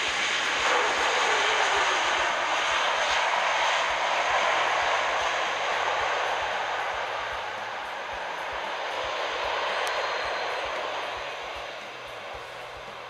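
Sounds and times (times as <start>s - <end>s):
jet engines in reverse thrust: 0.0s - 13.0s.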